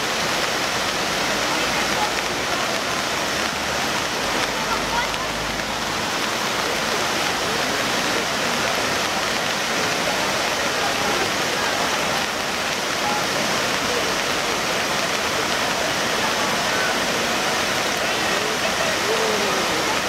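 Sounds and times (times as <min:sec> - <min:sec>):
river rapids rushing over rocks: 0:00.0 - 0:20.0.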